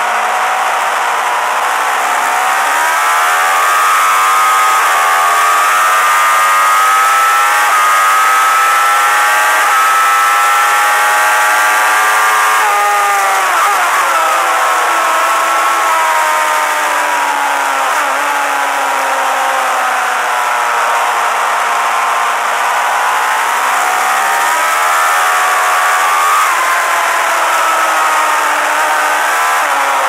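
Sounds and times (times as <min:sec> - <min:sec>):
motorcycle engine revving high: 0:00.0 - 0:30.0.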